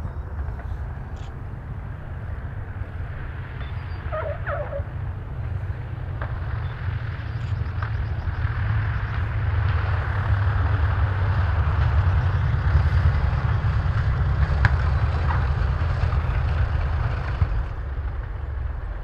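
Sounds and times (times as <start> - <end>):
radial aircraft engines rumbling: 0.0 - 19.0.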